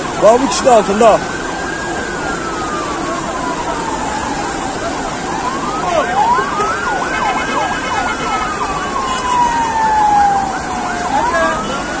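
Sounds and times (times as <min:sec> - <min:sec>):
fast sweeping siren: 0:00.0 - 0:12.0
slow wailing siren: 0:00.0 - 0:12.0.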